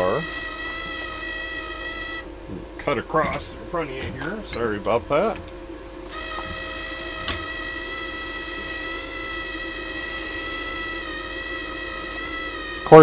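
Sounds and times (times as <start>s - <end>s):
wire-feed motor whine: 0.0s - 13.0s.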